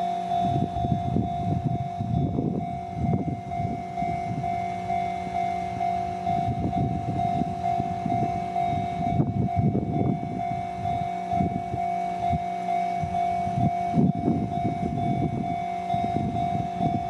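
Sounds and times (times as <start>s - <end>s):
level crossing warning bell: 0.0s - 17.0s
low rumble: 0.0s - 17.0s.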